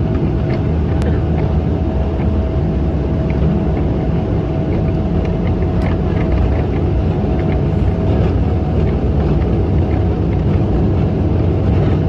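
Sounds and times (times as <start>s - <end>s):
jet cabin roar: 0.0s - 12.0s
steady hum: 0.0s - 12.0s.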